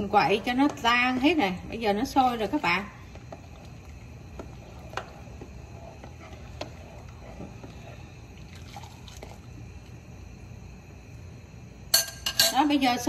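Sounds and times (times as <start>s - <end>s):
boiling brine bubbling: 0.0s - 11.9s.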